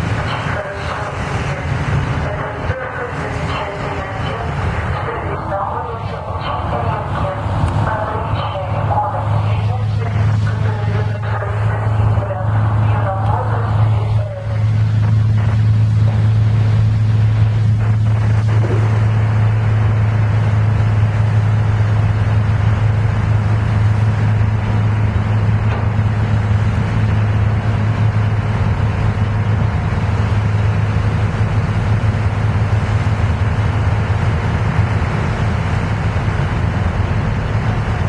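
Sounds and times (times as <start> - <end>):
boat engine humming: 0.0 - 38.0
water rushing along hull: 0.0 - 38.0.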